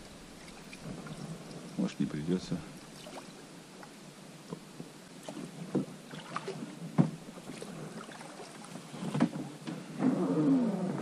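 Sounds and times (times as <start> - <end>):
oars dipping and splashing: 0.0 - 11.0
rush of moving water: 0.0 - 11.0.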